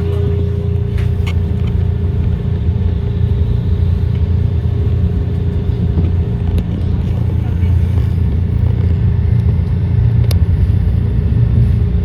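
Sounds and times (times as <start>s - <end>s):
steady hum: 0.0s - 12.0s
trolley rumbling on track: 0.0s - 12.0s.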